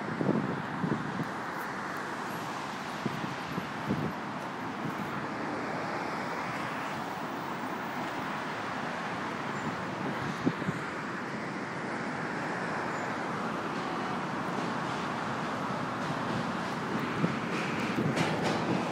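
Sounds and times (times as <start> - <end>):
road traffic: 0.0 - 18.9.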